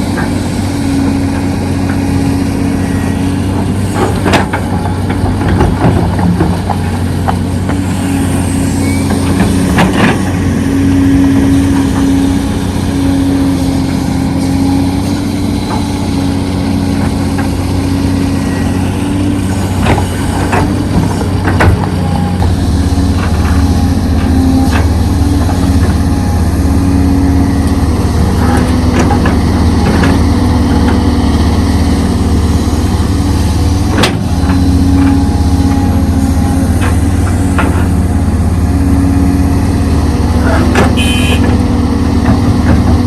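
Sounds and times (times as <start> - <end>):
heavy machinery diesel engines droning: 0.0 - 43.0.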